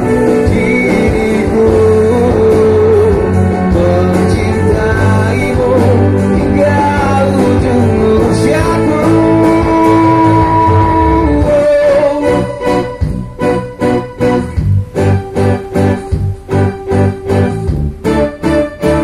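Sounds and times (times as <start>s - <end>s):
acoustic guitar strumming: 0.0s - 19.0s
bass guitar: 0.0s - 19.0s
drums: 0.0s - 19.0s
long held melody notes: 0.0s - 19.0s.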